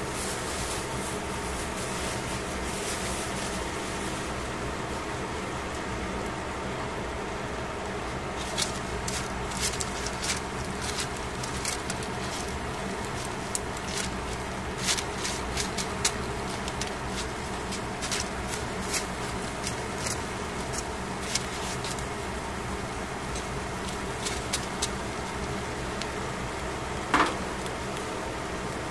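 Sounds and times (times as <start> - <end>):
steady mechanical hum: 0.0 - 28.9.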